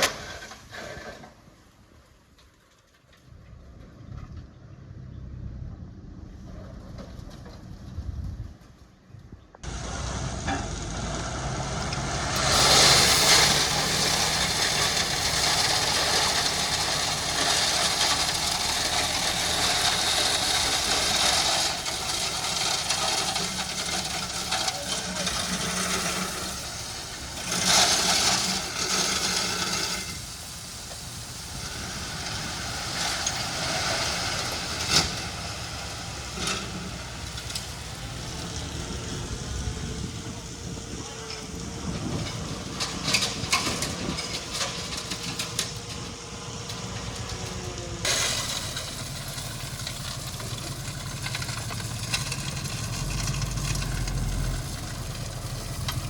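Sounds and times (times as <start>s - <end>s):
heavy machine engine running: 9.6s - 56.0s.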